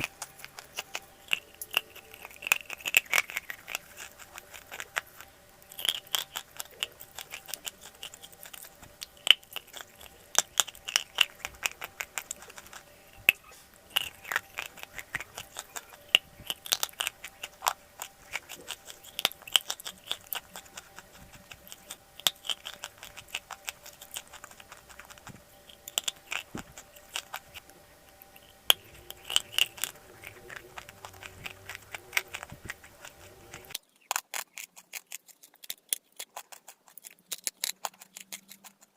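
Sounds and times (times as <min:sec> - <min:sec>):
chalk crunching as chewed: 0:00.0 - 0:38.9.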